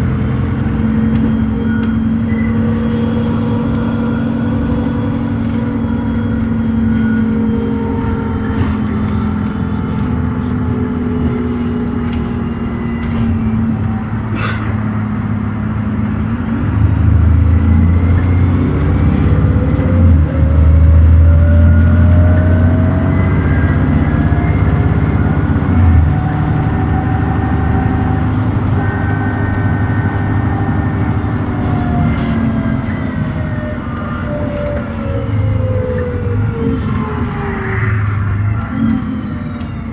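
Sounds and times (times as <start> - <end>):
bus engine revving: 0.0 - 39.9.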